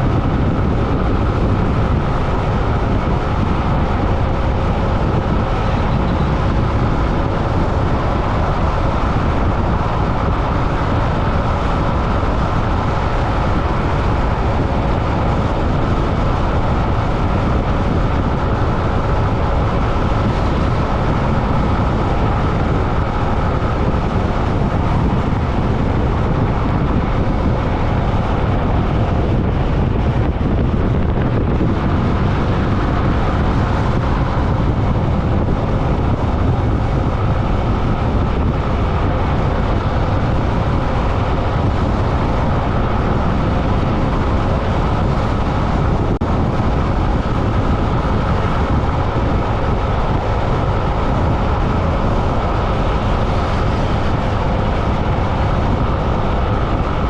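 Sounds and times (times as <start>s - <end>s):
road noise rumble: 0.0s - 57.0s
wind rush: 0.0s - 57.0s.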